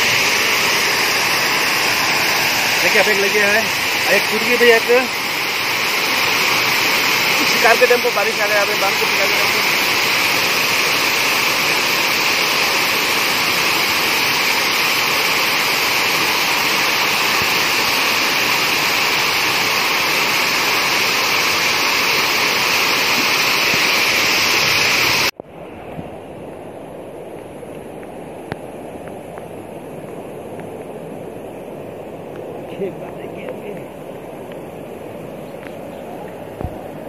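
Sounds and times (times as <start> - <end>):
rain falling: 0.0 - 25.3, 28.0 - 37.0.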